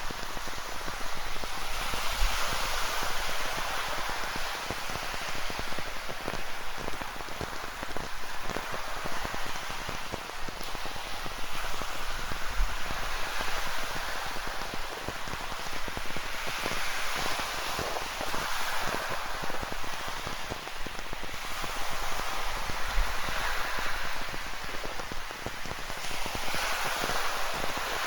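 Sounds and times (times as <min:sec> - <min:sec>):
rain patter: 0:00.0 - 0:28.0.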